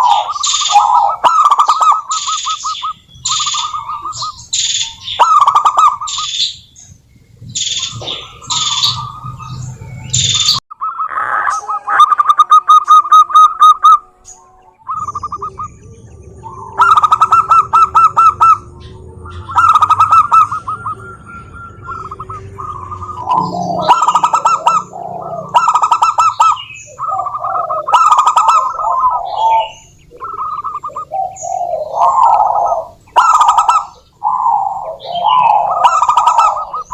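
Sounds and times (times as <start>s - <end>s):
doves cooing: 0.0s - 36.9s
small birds chirping: 0.0s - 36.9s.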